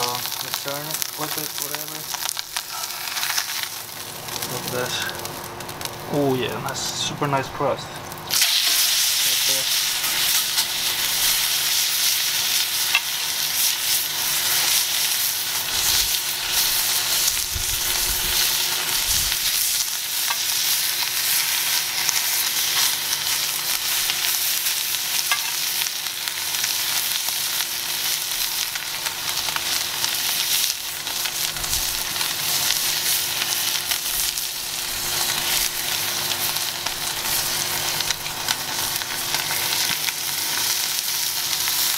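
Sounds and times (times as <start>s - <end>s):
steak sizzling in a skillet: 0.0s - 6.4s, 8.0s - 41.9s.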